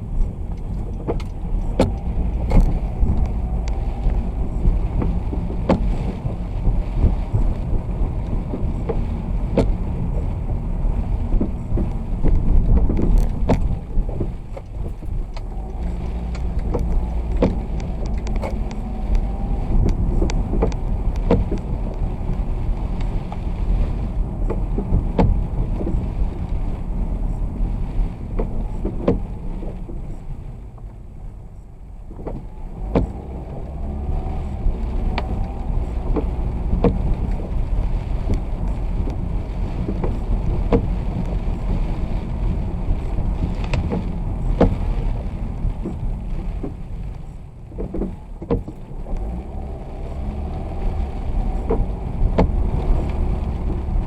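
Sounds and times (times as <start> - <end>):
road rumble and wet tyres: 0.0 - 54.0.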